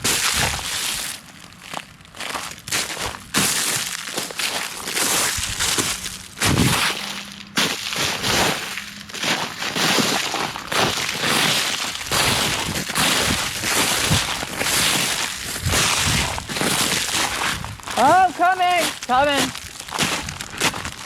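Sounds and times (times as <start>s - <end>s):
footsteps crunching through ice: 0.0s - 21.0s.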